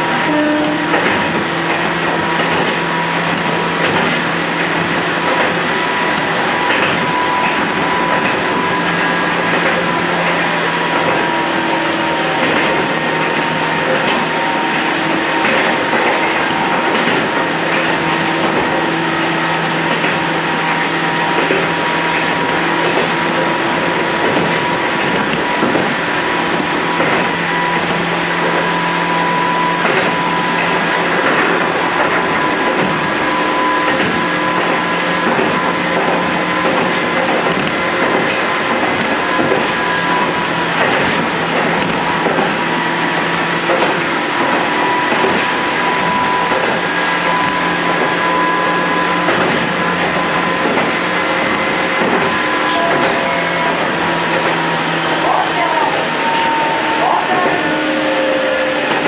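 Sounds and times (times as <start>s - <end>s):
train motor hum: 0.0s - 59.0s
wheels rumbling on rail: 0.0s - 59.0s.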